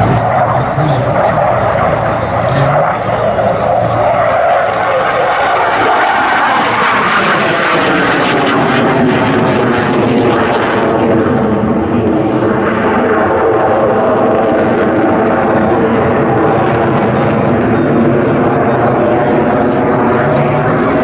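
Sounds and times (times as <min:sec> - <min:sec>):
jet engine flypast: 0:00.0 - 0:21.0.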